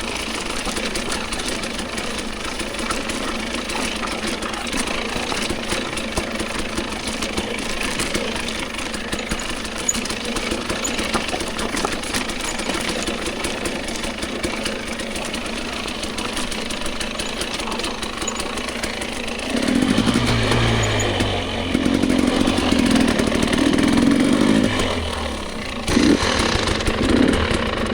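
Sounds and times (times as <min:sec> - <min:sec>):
dirt bike engine running: 0:00.0 - 0:27.9.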